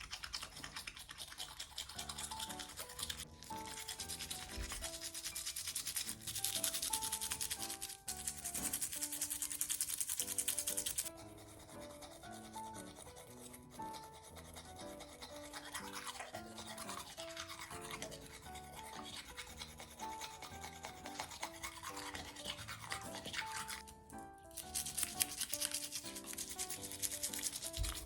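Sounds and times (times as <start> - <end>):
toothbrush scratching on teeth: 0.0 - 28.0
light melodic background music: 0.1 - 28.0.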